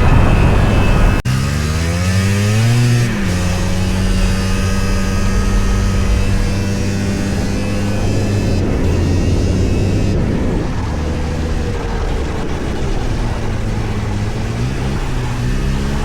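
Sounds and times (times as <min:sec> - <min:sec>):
snowmobile two-stroke engine: 0:00.0 - 0:16.0.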